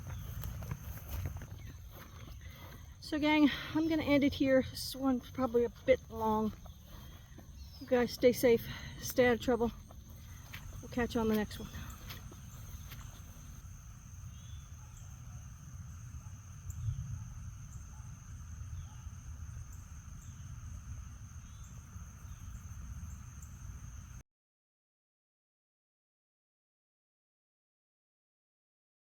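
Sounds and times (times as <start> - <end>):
crickets trilling: 0.0 - 24.2
low outdoor rumble: 0.0 - 24.2.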